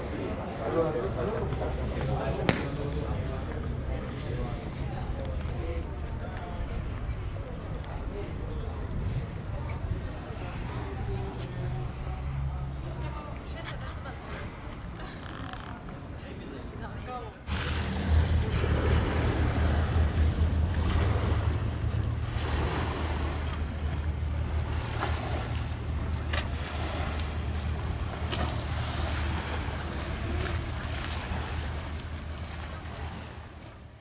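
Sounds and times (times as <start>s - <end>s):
waves lapping on stone shore: 0.0s - 34.0s.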